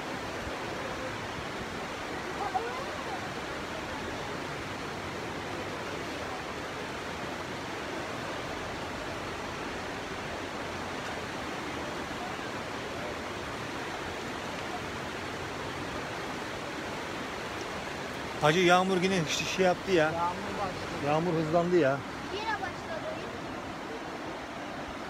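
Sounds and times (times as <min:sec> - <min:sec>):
floodwater rushing: 0:00.0 - 0:25.0
rain falling: 0:00.0 - 0:25.0.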